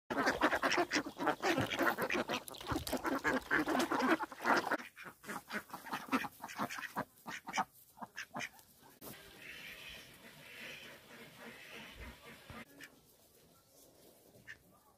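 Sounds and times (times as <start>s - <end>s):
ducks quacking: 0.1s - 13.1s, 14.4s - 14.8s.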